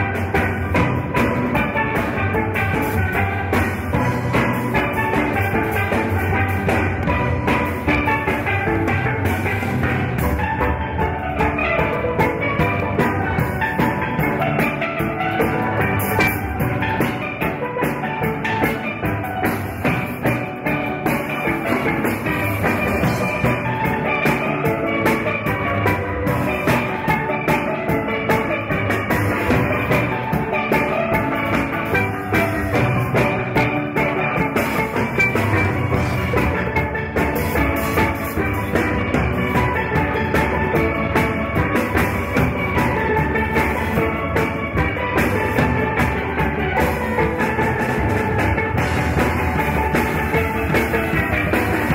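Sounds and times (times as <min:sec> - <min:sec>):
steady drum beat: 0:00.0 - 0:51.9
steelpan melody: 0:00.0 - 0:51.9.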